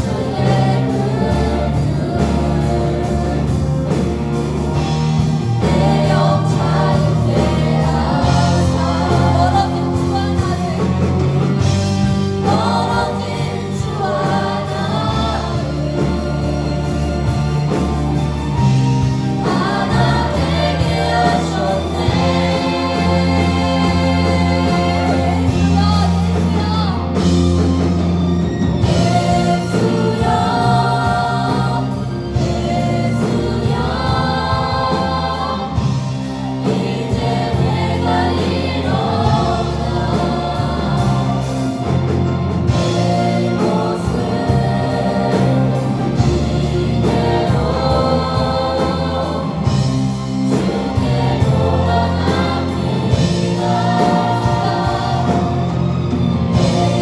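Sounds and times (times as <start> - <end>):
band accompaniment: 0.0 - 57.0
group singing a praise song: 0.0 - 57.0
steady bass notes: 0.0 - 57.0.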